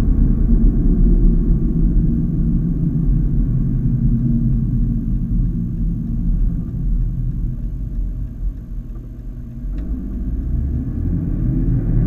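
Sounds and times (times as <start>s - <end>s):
car engine inside cabin: 0.0s - 12.0s
road rumble: 0.0s - 12.0s.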